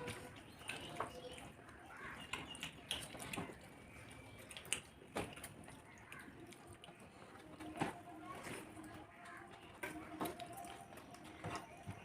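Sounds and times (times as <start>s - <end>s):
wet chewing and smacking: 0.0s - 12.0s.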